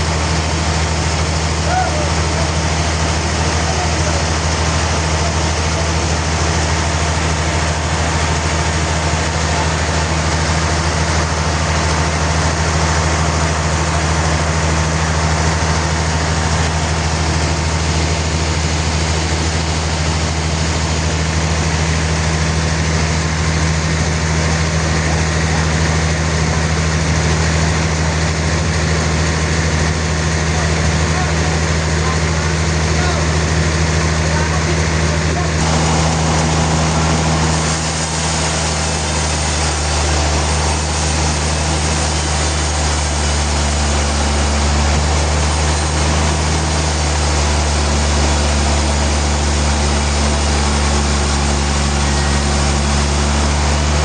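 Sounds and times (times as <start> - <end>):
sawmill machinery hum: 0.0 - 54.0.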